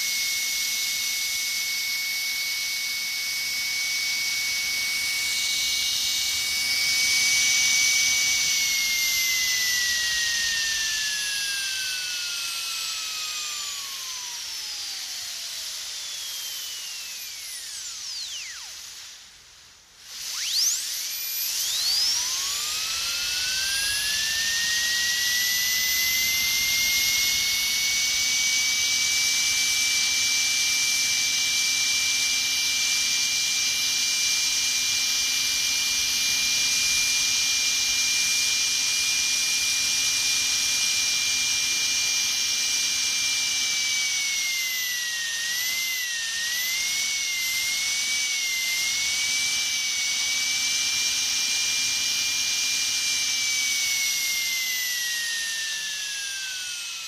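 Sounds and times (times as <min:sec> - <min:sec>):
dentist's drill whining: 0:00.0 - 0:57.0.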